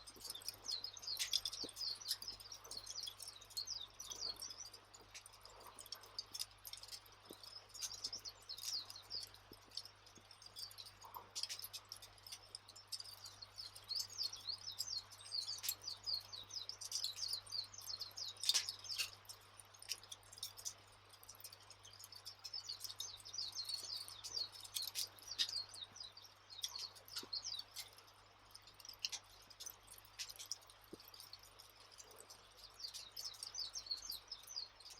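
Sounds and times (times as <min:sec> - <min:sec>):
birds chirping: 0:00.0 - 0:34.9
wood fire crackling and popping: 0:00.0 - 0:34.9.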